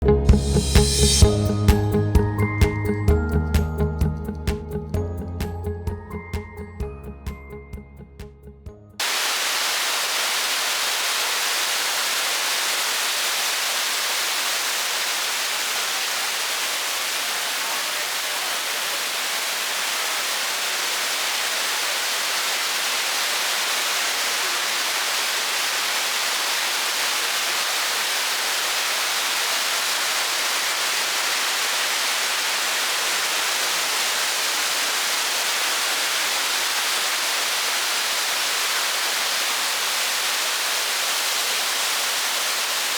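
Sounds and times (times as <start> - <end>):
waterfall rushing: 0.4 - 1.9, 9.0 - 42.9.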